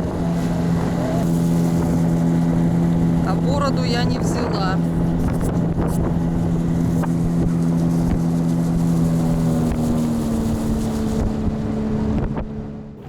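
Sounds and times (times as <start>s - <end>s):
motorboat engine running: 0.0s - 13.0s
water rushing: 0.0s - 13.0s
wind: 0.0s - 13.0s.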